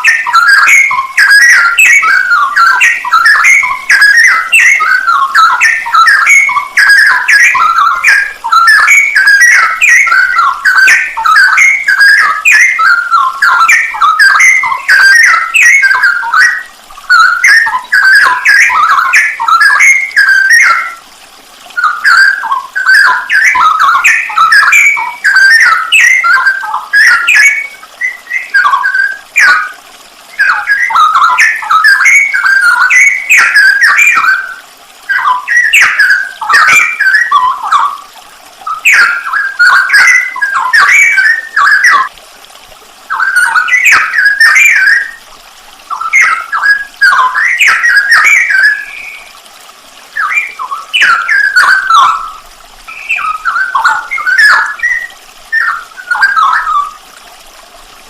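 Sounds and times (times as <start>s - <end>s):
bulbul singing: 0.0s - 21.0s, 21.6s - 42.2s, 43.1s - 45.3s, 45.9s - 49.4s, 50.1s - 57.1s.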